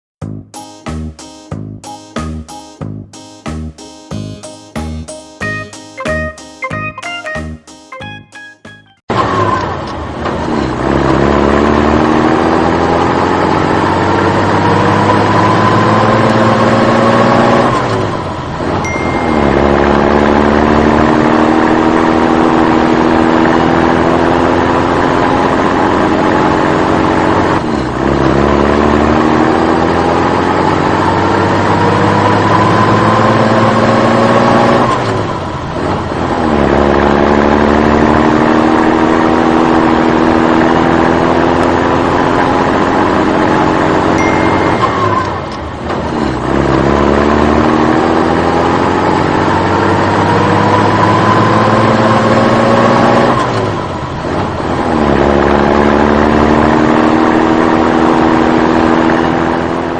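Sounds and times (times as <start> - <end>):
heavy vehicle engine revving: 9.1 - 59.9.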